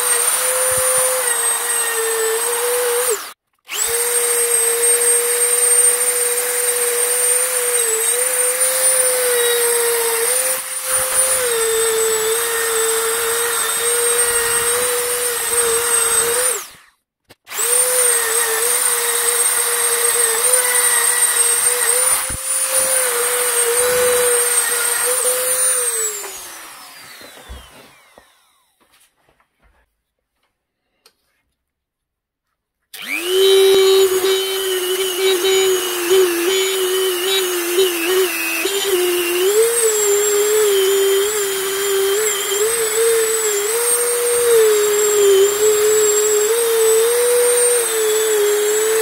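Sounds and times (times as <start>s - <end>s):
rotary tool whining on metal: 0.0s - 16.9s, 17.5s - 28.6s, 33.0s - 49.0s.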